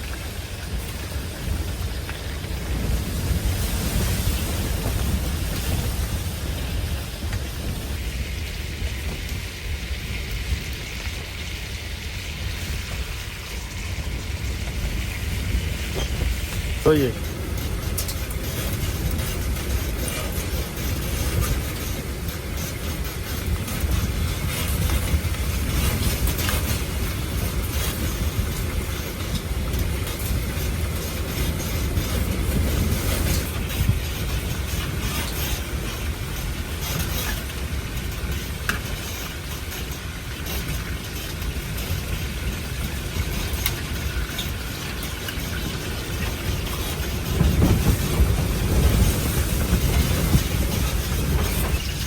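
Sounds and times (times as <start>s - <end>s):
blizzard wind blowing: 0.0s - 52.0s.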